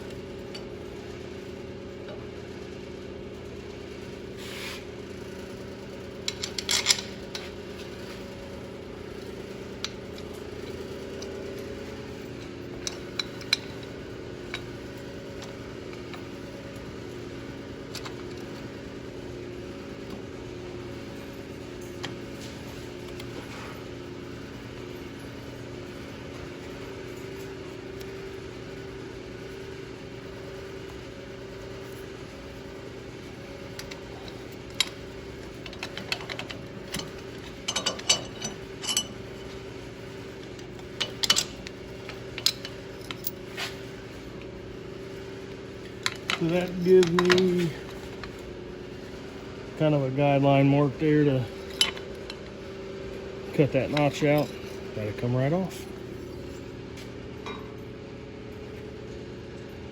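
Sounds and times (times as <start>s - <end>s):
shop equipment humming: 0.0s - 59.9s.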